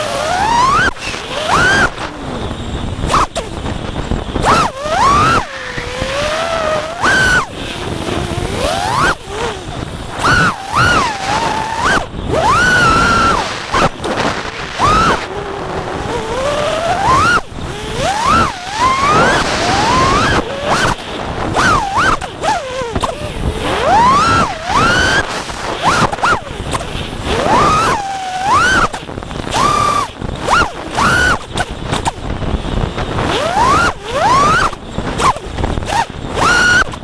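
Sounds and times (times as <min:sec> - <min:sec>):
quadcopter motors whining: 0:00.0 - 0:37.0
wind rushing over microphone: 0:00.0 - 0:37.0.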